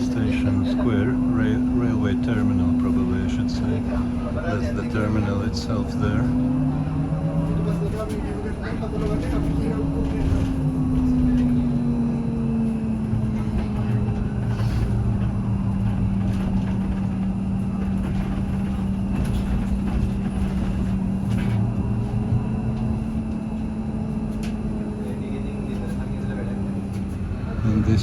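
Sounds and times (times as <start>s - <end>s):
road rumble: 0.0s - 28.0s.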